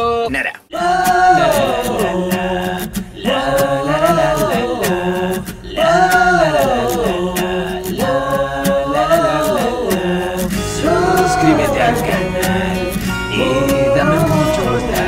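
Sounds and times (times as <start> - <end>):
person singing over a beat: 0.0 - 15.0.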